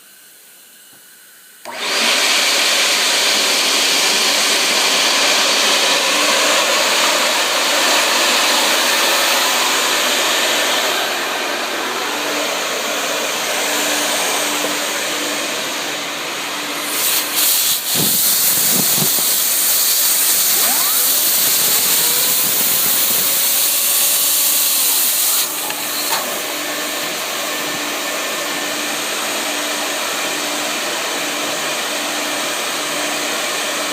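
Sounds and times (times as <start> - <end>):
vent-cleaning machine air rush: 1.5 - 33.9.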